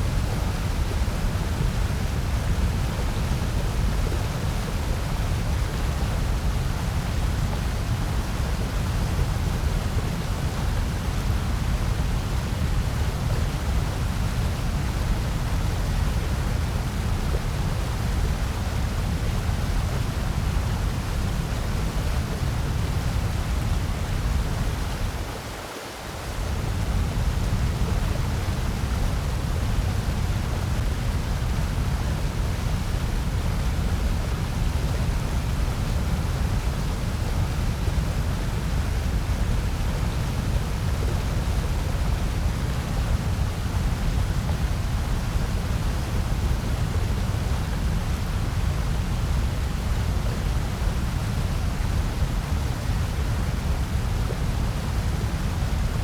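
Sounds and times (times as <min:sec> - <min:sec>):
synthetic white noise hiss: 0:00.0 - 0:56.0.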